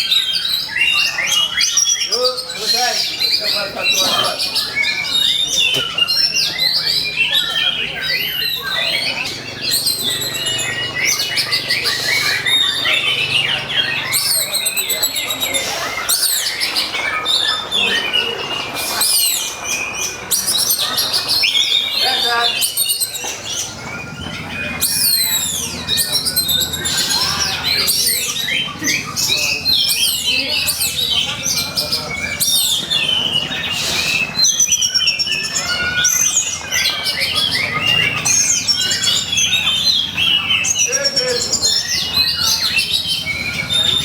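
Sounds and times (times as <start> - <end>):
bird singing rapid whistles: 0.0 - 44.0.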